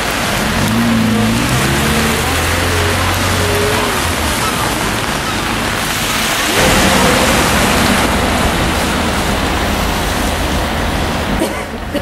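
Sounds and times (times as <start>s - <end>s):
rain hissing: 0.0s - 11.9s
traffic on wet road: 0.0s - 12.0s.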